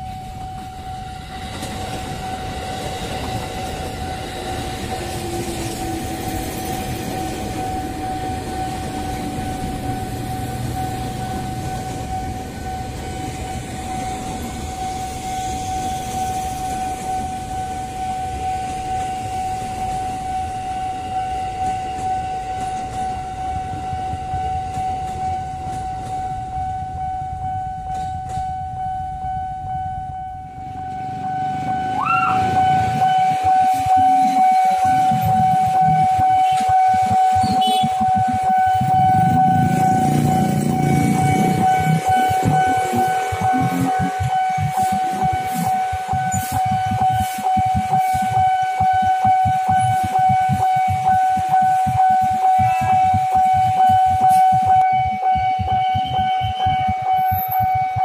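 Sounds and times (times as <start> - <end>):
electric train wheels rumbling: 0.0 - 58.0
level crossing alarm tone: 0.0 - 58.0.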